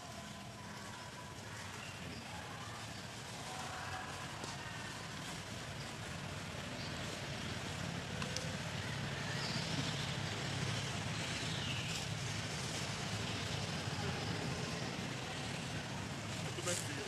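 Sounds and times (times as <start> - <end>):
low rumble with hiss: 0.0 - 17.0.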